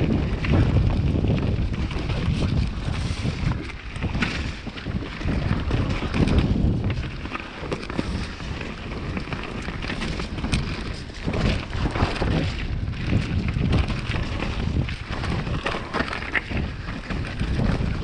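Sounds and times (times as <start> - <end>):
bike clattering over bumps: 0.0 - 18.0
bike tyres rolling over dirt: 0.0 - 18.0
wind noise on microphone: 0.0 - 18.0.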